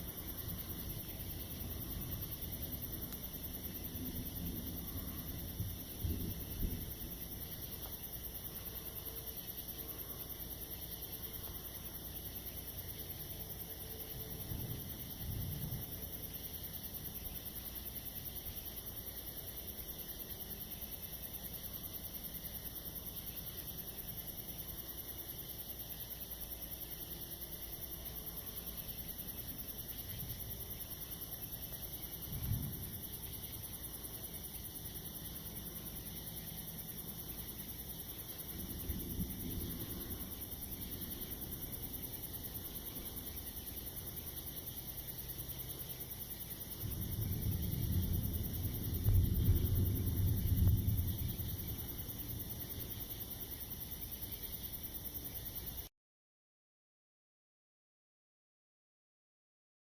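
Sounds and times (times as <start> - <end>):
crickets and insects chorus: 0.0 - 55.9.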